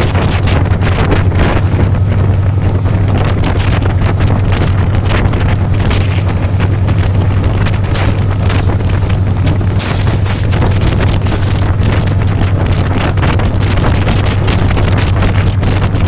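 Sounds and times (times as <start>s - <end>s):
train rushing rumble: 0.0s - 16.0s
wind buffeting microphone: 0.0s - 16.0s.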